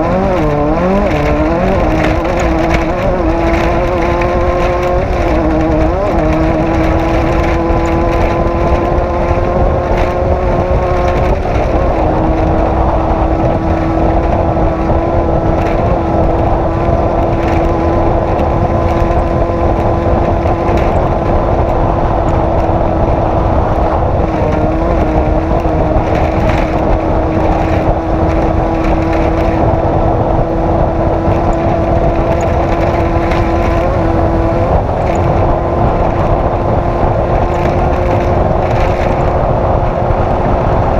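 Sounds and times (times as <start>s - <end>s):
engine at high revs: 0.0s - 40.9s
low rumble: 0.0s - 40.9s.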